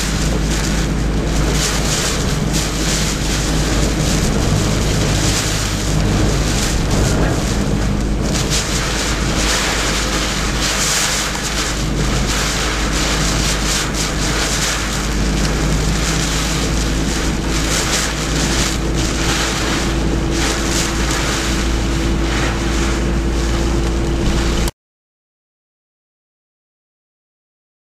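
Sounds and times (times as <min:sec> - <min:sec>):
low rumble: 0:00.0 - 0:24.7
strong wind buffeting microphone: 0:00.0 - 0:24.7.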